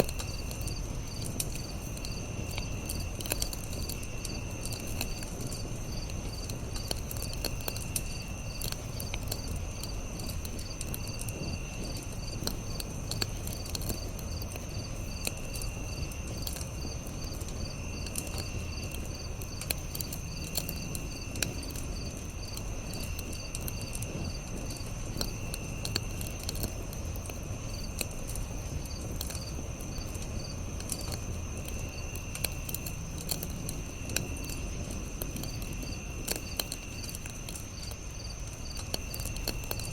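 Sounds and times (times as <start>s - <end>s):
campfire crackling and popping: 0.0s - 39.9s
crickets and insects chirring: 0.0s - 39.9s.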